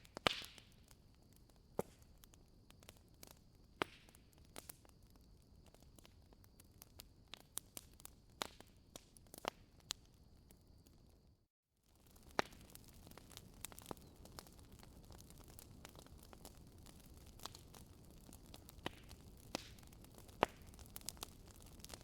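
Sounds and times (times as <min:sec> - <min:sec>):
wood fire crackling: 0:00.0 - 0:11.2, 0:11.8 - 0:22.0.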